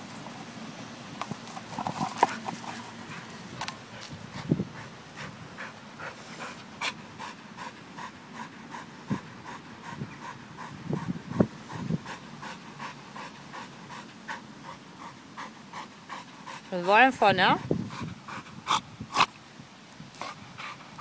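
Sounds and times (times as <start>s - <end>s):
dog panting hard: 1.8s - 18.9s, 20.2s - 21.0s.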